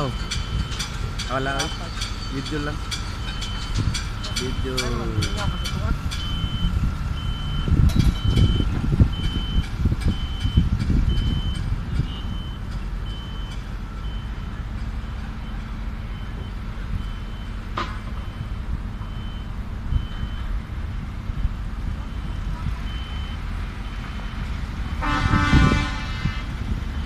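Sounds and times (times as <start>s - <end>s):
diesel machinery rumble: 0.0s - 27.0s
reversing alarm beeping: 0.0s - 27.0s.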